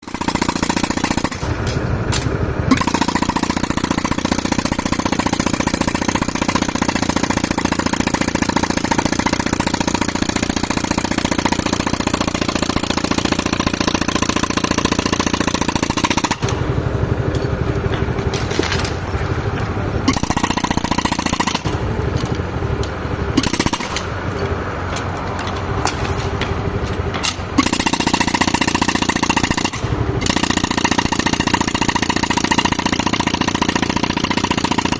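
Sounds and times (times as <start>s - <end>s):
jackhammer hammering: 0.0s - 34.9s
compressor engine running: 0.2s - 34.9s.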